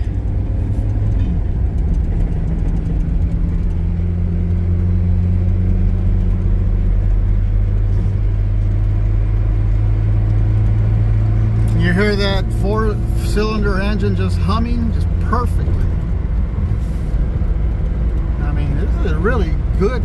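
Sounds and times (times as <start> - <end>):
truck engine humming: 0.0 - 20.0.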